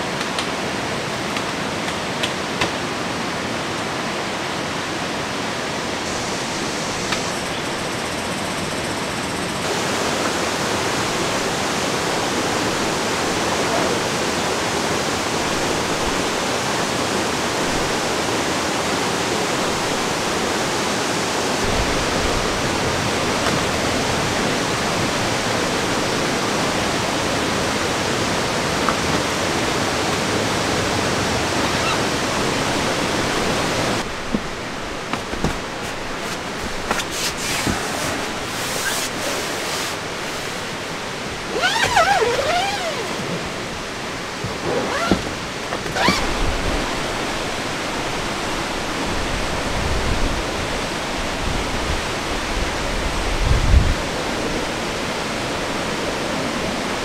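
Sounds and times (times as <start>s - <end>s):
stream rushing over rocks: 0.0s - 8.4s, 9.0s - 57.0s.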